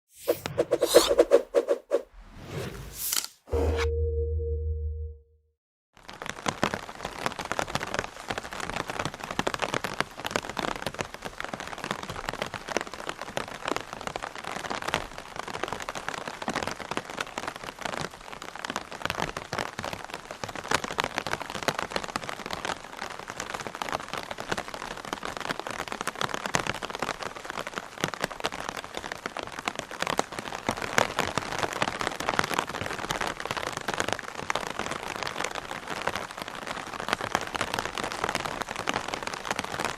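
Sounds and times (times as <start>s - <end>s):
rain drumming on an umbrella: 6.0s - 39.9s.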